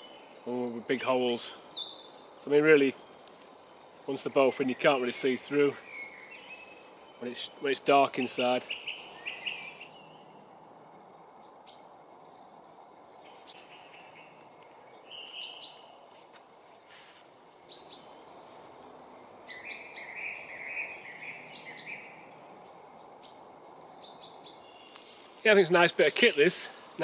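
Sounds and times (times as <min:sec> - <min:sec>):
bird warbling song: 0:00.0 - 0:03.4, 0:04.0 - 0:27.0
faint background hiss: 0:00.0 - 0:27.0
bird chirps: 0:01.2 - 0:03.3, 0:04.6 - 0:27.0.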